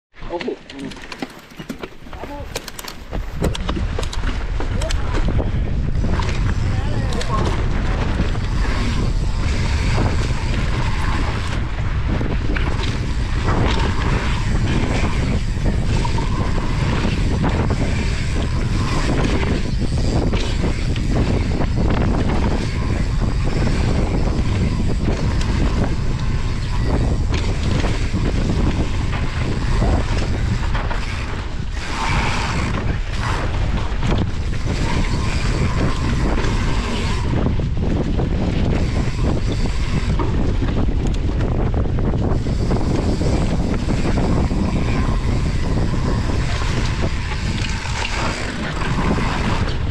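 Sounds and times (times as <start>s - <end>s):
bike rattling: 0.2s - 49.9s
wind on microphone: 0.3s - 49.9s.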